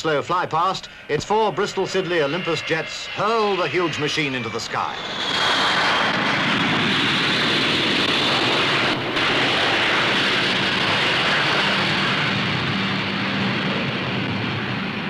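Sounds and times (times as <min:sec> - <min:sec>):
faint high whine: 0:00.0 - 0:12.5
jet engines at full power: 0:00.0 - 0:15.0.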